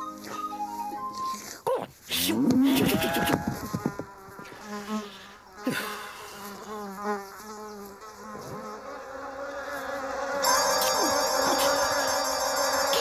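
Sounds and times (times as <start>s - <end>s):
cartoon fly buzzing: 2.2s - 13.0s.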